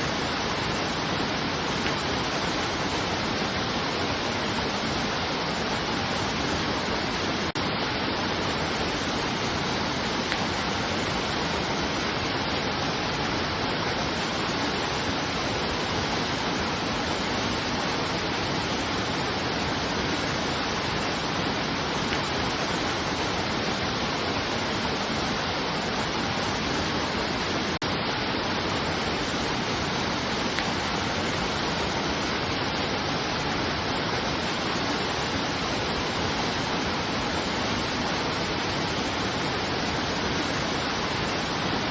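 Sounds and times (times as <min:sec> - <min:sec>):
rushing falling water: 0:00.0 - 0:41.9.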